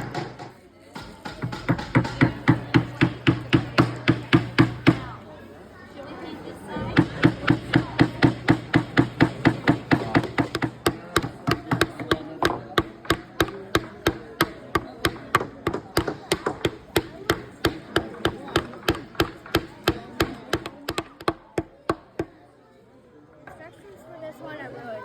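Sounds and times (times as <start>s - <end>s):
small hammer tapping on wood: 0.0s - 5.1s, 7.0s - 22.4s.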